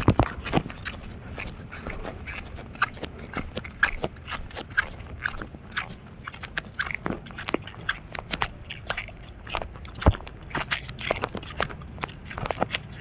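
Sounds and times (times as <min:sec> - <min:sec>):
crunchy footsteps: 0:00.0 - 0:13.0.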